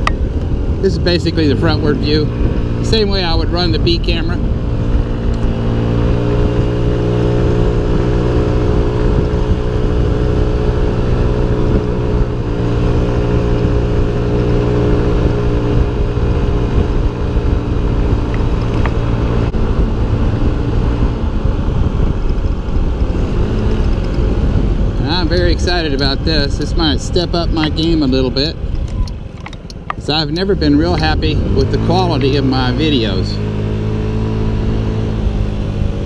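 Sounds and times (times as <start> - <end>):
road and wind noise: 0.0 - 36.0
scooter engine cruising: 0.0 - 36.0.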